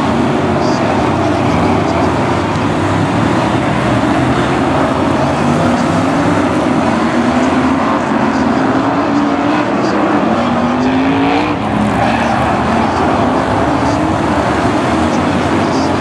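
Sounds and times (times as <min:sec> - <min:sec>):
racing car engines accelerating: 0:00.0 - 0:16.0.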